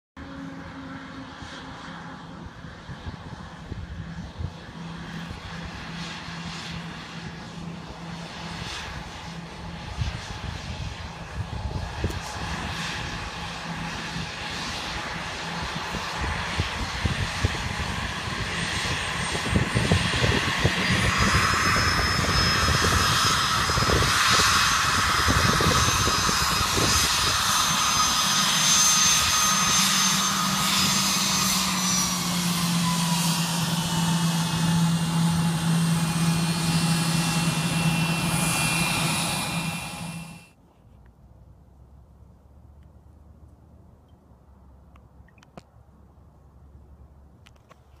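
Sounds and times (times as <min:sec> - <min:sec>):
jet engines whining: 0:00.2 - 0:40.6.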